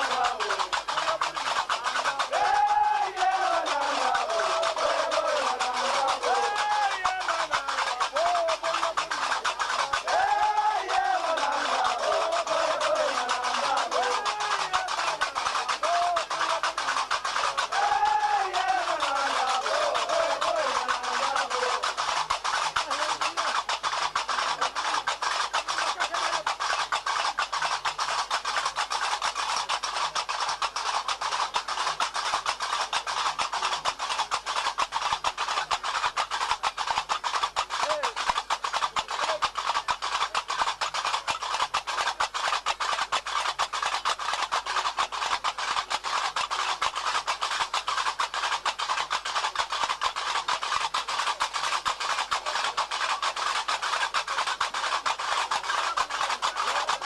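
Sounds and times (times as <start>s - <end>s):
fast dance music drumming: 0.0s - 57.0s.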